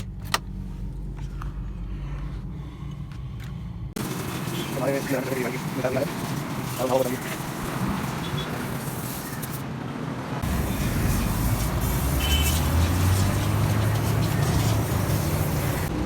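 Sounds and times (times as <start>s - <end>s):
vehicle engine drone: 0.0s - 9.4s, 10.0s - 16.0s.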